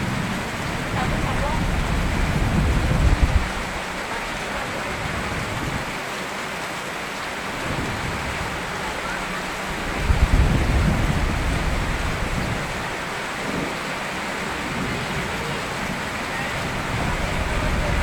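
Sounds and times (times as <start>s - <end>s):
thunder rumbling: 0.0s - 5.9s, 7.4s - 18.0s
steady rain: 0.0s - 18.0s.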